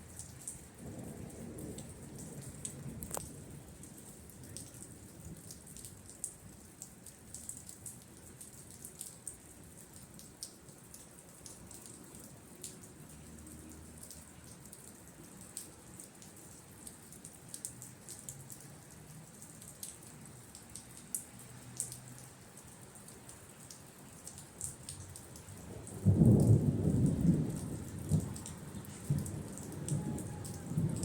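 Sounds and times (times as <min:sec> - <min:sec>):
raindrops ticking: 0:00.0 - 0:31.0
soft rain hiss: 0:00.0 - 0:31.0.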